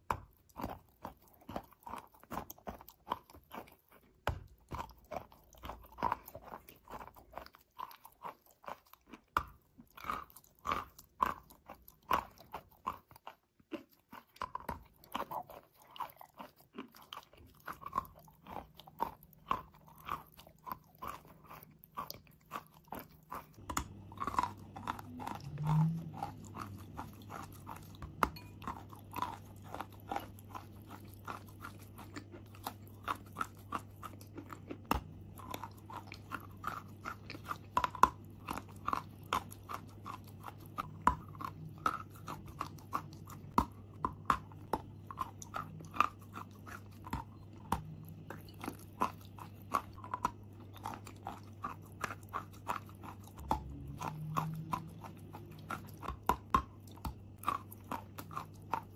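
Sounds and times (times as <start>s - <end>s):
chalk crunching in mouth: 0.0s - 58.9s
faint low hum: 0.1s - 58.9s.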